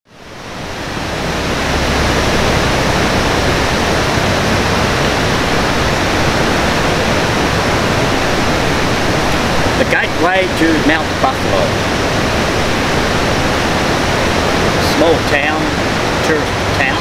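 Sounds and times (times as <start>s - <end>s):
river water rushing over rocks: 0.1s - 17.0s.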